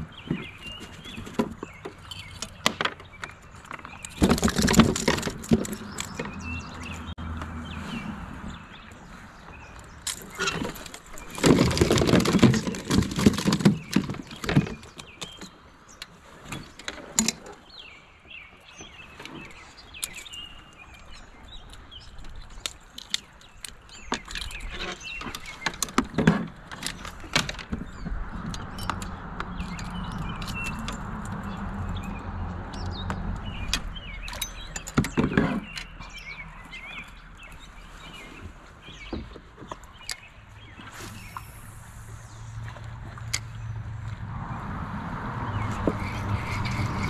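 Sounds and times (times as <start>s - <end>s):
birds chirping: 0.0s - 44.7s, 45.3s - 47.0s.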